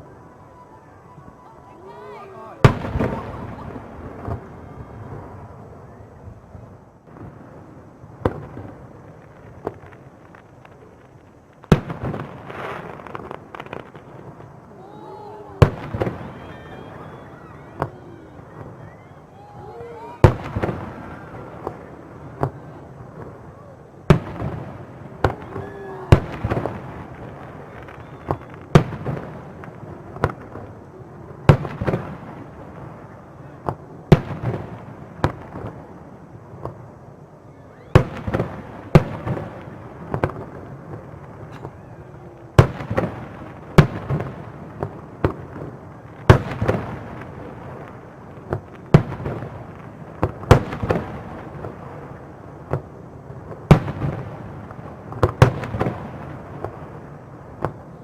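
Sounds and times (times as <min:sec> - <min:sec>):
fireworks bangs with rumbling echo: 0:00.0 - 0:58.0.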